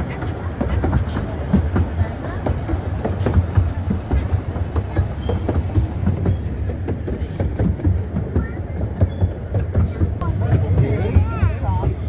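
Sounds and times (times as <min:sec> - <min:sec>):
train low rumble: 0:00.0 - 0:12.0
wheels clicking on rails: 0:00.0 - 0:12.0.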